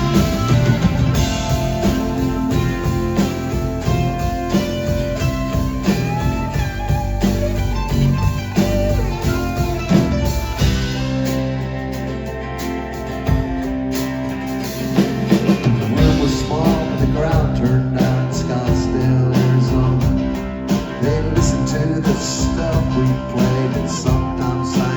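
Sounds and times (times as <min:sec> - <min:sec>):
bass: 0:00.0 - 0:24.9
lead guitar: 0:00.0 - 0:24.9
steady drum beat: 0:00.0 - 0:24.9.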